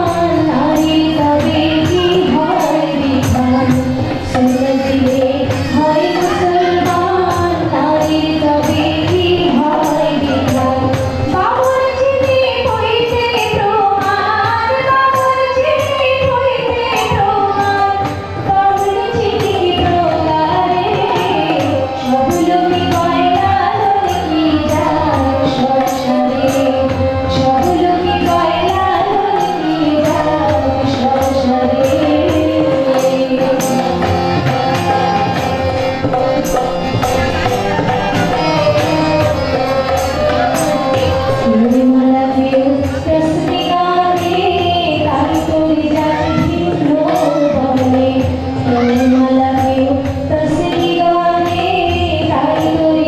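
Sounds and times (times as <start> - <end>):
woman singing: 0.0 - 35.7, 37.0 - 53.0
harmonium chords: 0.0 - 53.0
light percussion beat: 0.0 - 53.0.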